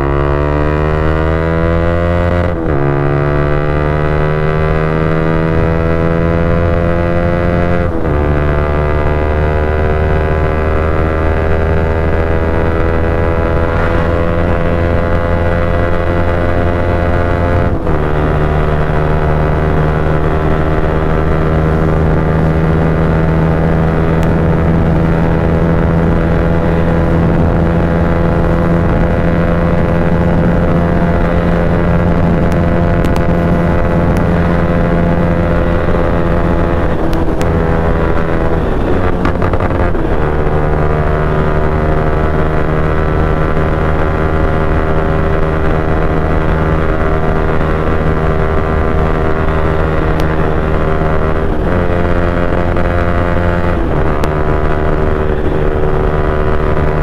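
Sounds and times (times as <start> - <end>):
motorcycle engine accelerating hard: 0.0 - 57.0.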